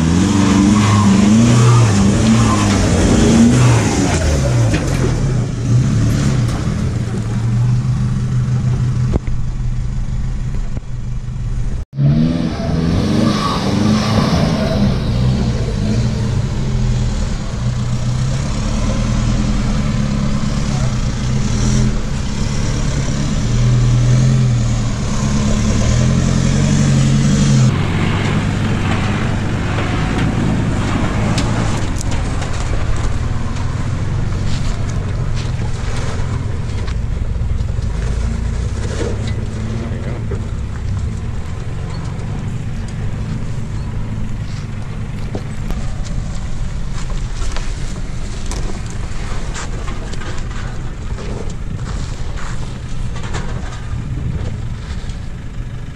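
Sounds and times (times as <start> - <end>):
gravel crunching under tyres: 0.0 - 55.9
vehicle engine at low revs: 0.0 - 55.9.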